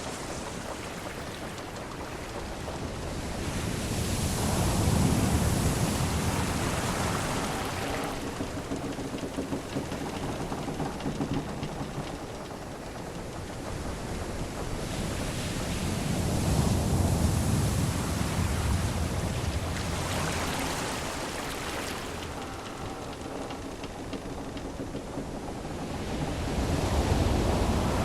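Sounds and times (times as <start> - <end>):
sea waves washing against ship: 0.0 - 28.0.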